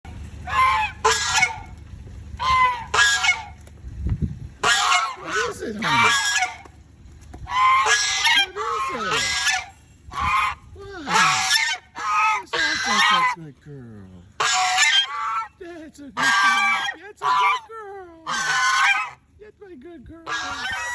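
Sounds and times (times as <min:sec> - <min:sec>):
goose honking: 0:00.0 - 0:03.6, 0:04.6 - 0:06.7, 0:07.4 - 0:13.5, 0:14.3 - 0:19.4, 0:20.2 - 0:20.9.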